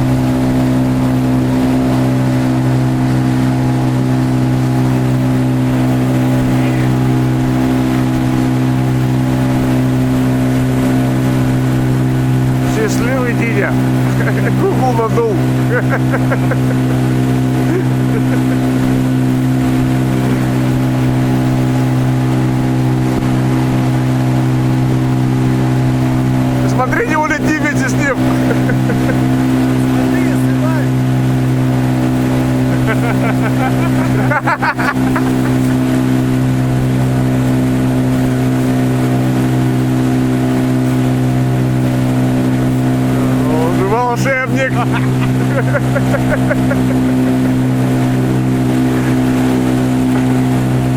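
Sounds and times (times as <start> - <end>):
motor humming: 0.0 - 50.9.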